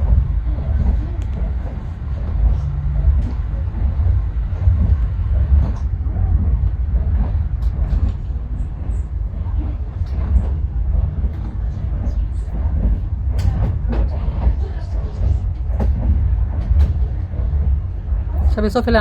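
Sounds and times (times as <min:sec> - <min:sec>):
train rumbling along tracks: 0:00.0 - 0:19.0.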